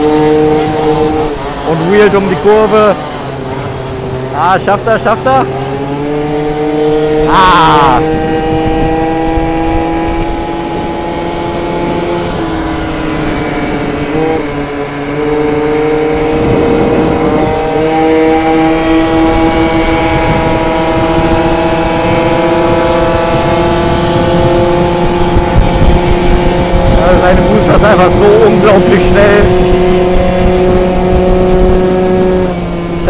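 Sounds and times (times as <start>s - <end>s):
scooter engine buzzing at high revs: 0.0s - 33.0s
wind buffeting microphone: 0.0s - 33.0s.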